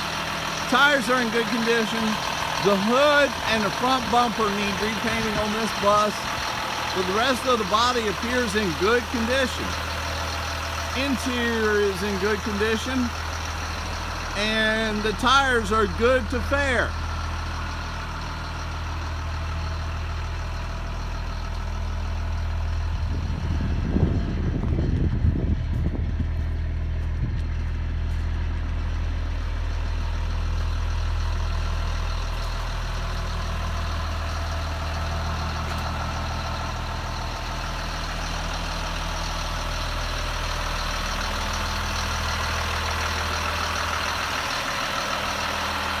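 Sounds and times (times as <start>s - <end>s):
diesel bus engine idling: 0.0s - 46.0s.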